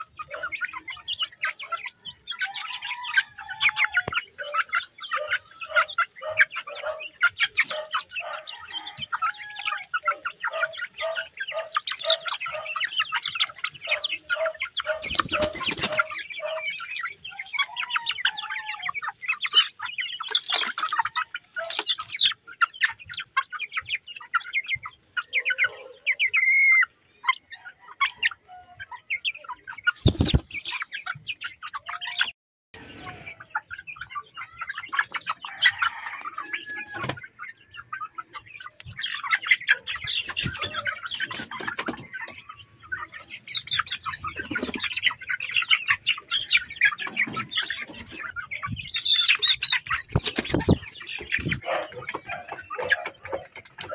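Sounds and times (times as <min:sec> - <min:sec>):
chickens clucking and chirping: 0:00.0 - 0:53.9
low chicken cluck: 0:00.0 - 0:53.9.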